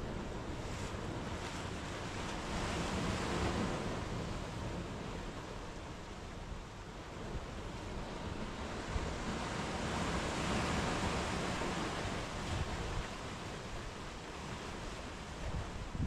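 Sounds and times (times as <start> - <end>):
sea waves breaking on beach: 0.1 - 16.0.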